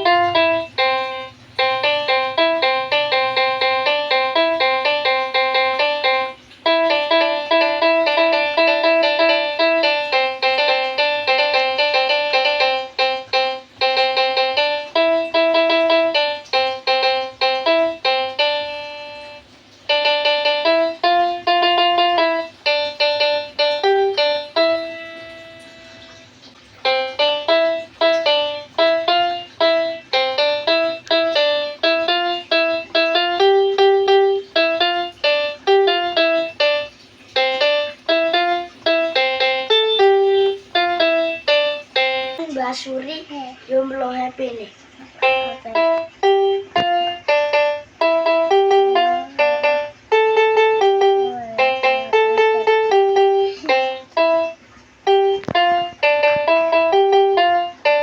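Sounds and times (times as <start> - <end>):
toy keyboard bus-horn notes: 0.0 - 26.2, 26.8 - 42.4, 45.2 - 58.0.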